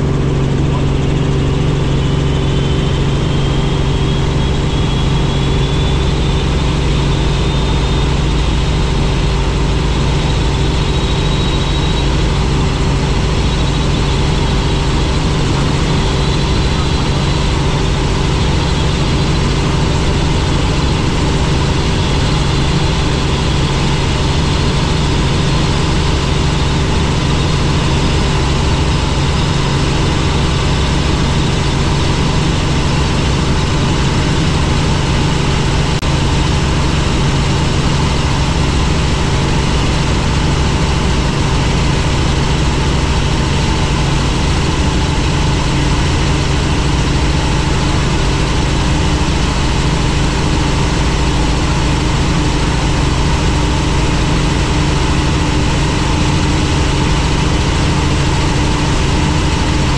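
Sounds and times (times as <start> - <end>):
helicopter drone: 0.0 - 59.9.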